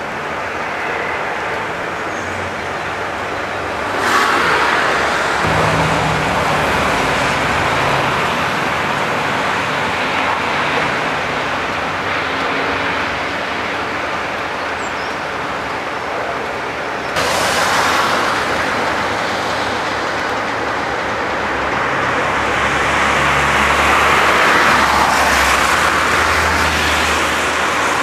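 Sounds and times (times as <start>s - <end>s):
diesel locomotive engine: 0.0s - 28.0s
train rumbling: 0.0s - 28.0s.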